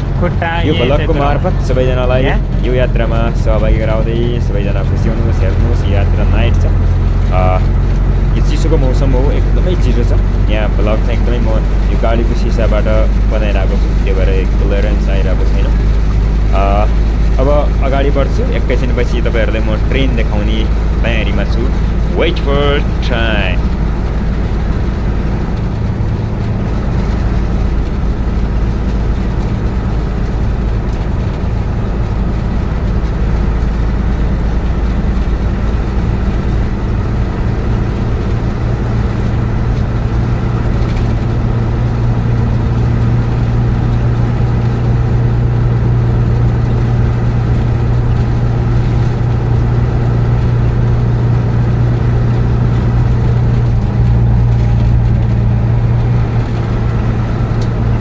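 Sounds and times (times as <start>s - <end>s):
bus engine drone: 0.0s - 58.0s
low hum: 0.0s - 58.0s.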